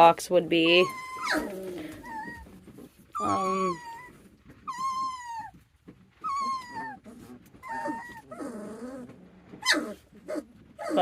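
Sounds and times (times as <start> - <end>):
puppy squeak: 0.6 - 5.6, 6.2 - 11.0
puppies crying: 0.6 - 11.0
puppy whimpers: 0.6 - 11.0.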